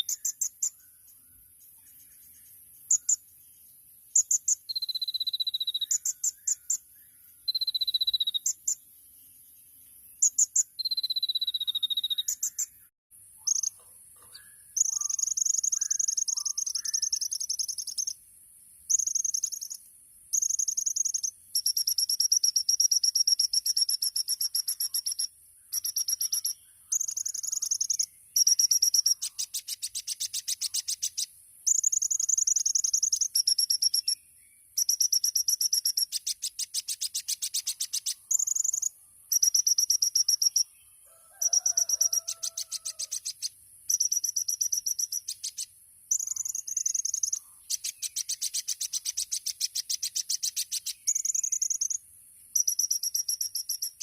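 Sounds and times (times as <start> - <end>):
sunbird singing high trills: 0.0 - 18.2, 18.9 - 54.0.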